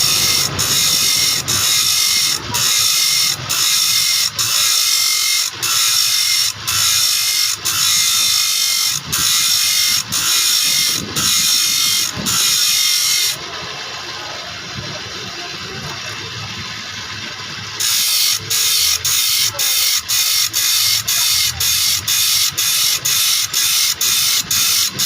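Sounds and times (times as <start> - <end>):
file scraping saw teeth: 0.0 - 13.4, 17.8 - 25.0.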